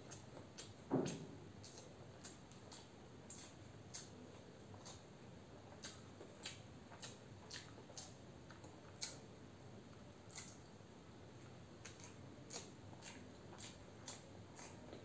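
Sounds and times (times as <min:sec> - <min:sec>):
mouth chewing wet clicks: 0:00.0 - 0:15.0.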